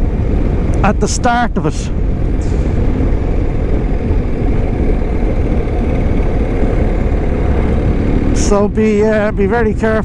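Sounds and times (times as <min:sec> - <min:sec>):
road and wind noise: 0:00.0 - 0:10.0
motorcycle engine rumbling: 0:01.8 - 0:10.0.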